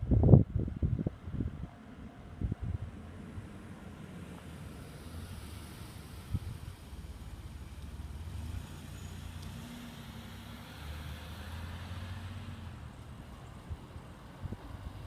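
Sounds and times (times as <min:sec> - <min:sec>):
vehicle engine hum: 0:00.6 - 0:15.0.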